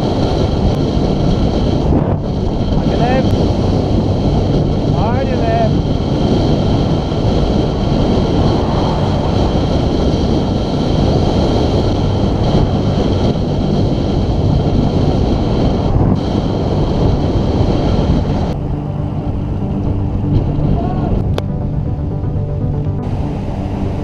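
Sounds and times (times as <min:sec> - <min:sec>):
road noise: 0:00.0 - 0:24.0
wind rumble on microphone: 0:00.0 - 0:24.0.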